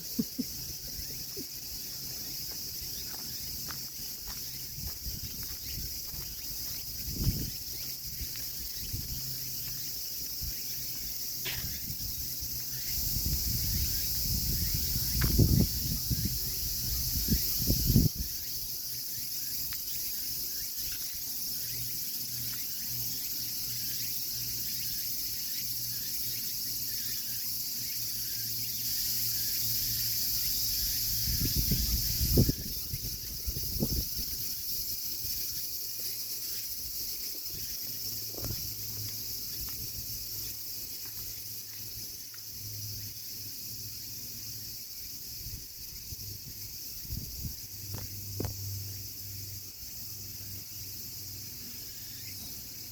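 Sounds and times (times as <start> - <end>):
insect chorus drone: 0.0 - 52.9.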